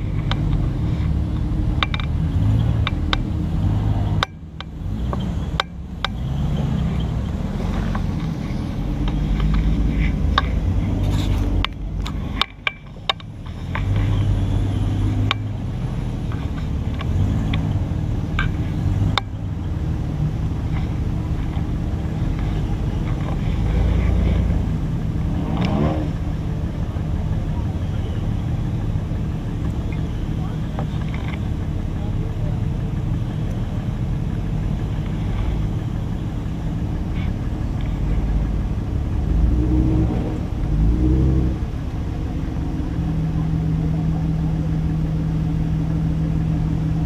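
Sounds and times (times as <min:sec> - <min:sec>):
off-road engine crawling: 0:00.0 - 0:47.0
tires and suspension clunking on rock: 0:00.0 - 0:47.0.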